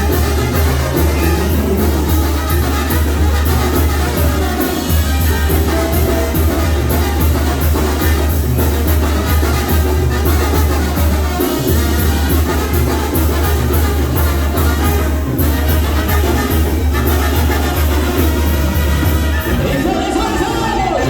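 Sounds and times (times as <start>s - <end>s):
latin dance music with heavy bass: 0.0s - 21.0s.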